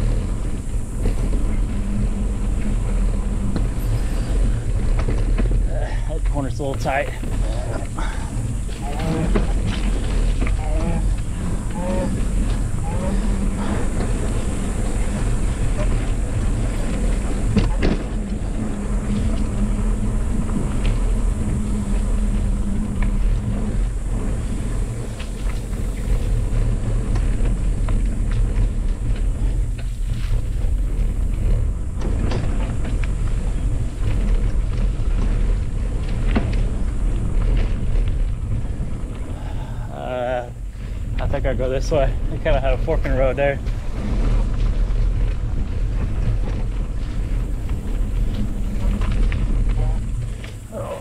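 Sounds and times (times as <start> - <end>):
bike knocking and rattling: 0.0 - 51.0
bike tyres rumbling on dirt: 0.0 - 51.0
wind buffeting microphone: 0.0 - 51.0.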